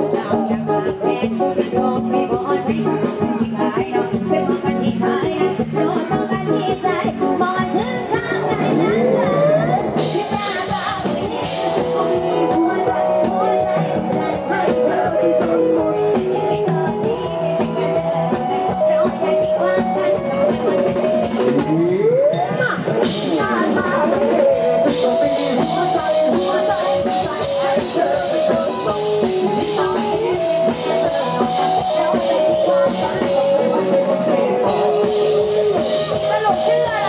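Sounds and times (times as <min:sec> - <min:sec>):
drum kit beat: 0:00.0 - 0:37.0
live band music: 0:00.0 - 0:37.0.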